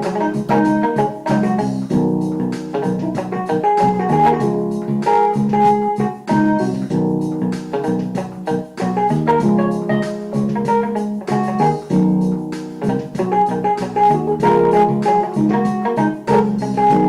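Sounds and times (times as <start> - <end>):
organ-like keyboard chords: 0.0 - 17.0
piano notes: 0.0 - 17.0.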